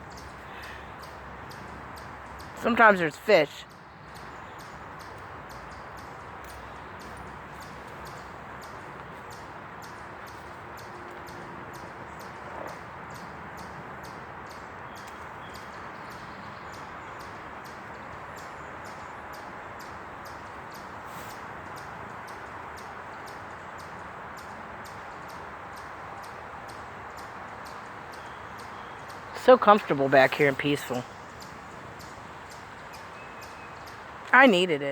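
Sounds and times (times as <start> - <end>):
outdoor background hiss: 0.0 - 34.9.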